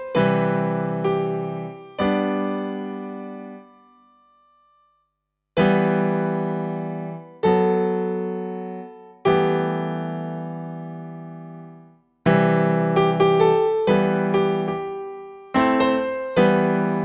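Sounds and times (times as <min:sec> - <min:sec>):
piano chords ringing: 0:00.0 - 0:05.0, 0:05.6 - 0:17.0.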